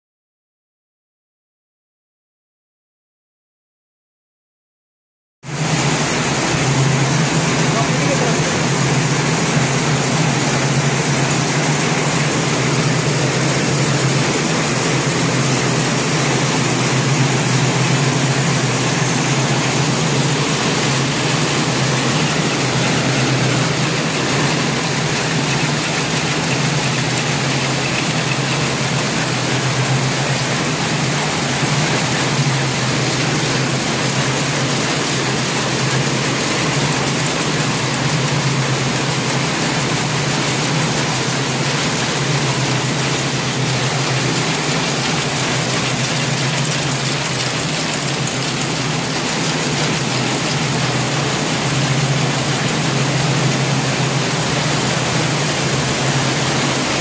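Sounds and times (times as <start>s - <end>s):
weaving looms running: 5.5s - 57.0s.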